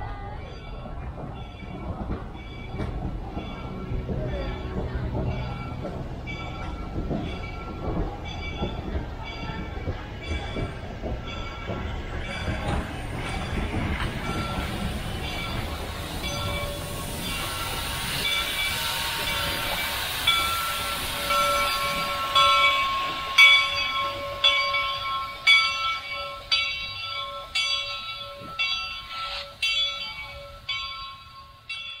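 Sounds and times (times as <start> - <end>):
train running noise: 0.0 - 32.0
locomotive bell ringing: 0.1 - 32.0
steam hiss: 3.3 - 31.7.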